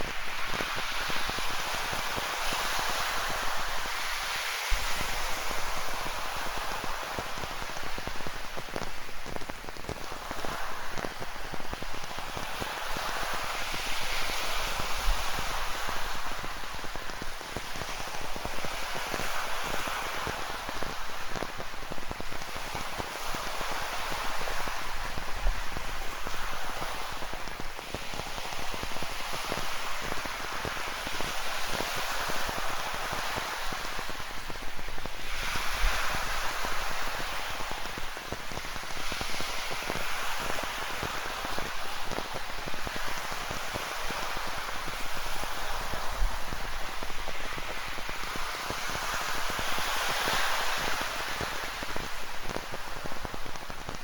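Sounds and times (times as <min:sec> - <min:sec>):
ocean waves washing in: 0:00.0 - 0:54.0
rain patter: 0:00.0 - 0:54.0.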